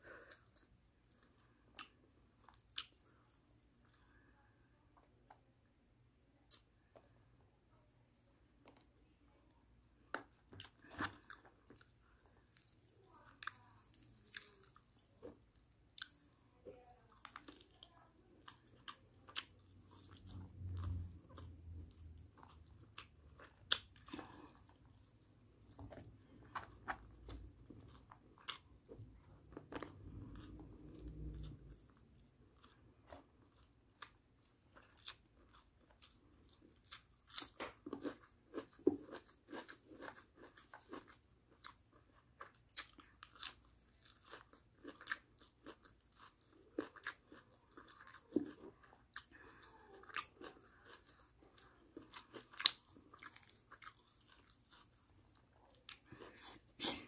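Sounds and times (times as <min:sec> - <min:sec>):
chewing and biting food: 0:10.1 - 0:16.4, 0:17.0 - 0:57.0.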